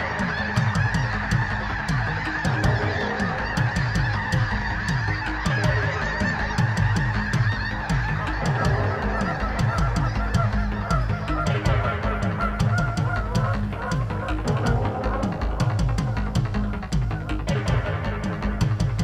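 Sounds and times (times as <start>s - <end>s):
electronic music with bass: 0.0s - 19.0s
geese honking: 0.0s - 19.0s.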